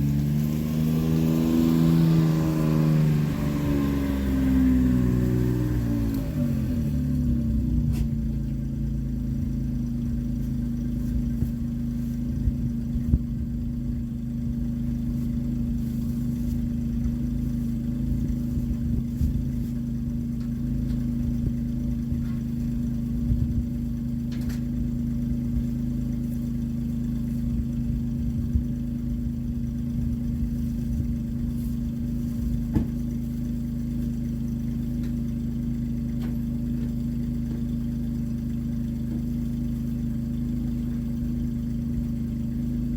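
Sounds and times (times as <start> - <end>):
utility vehicle engine running: 0.0 - 42.9.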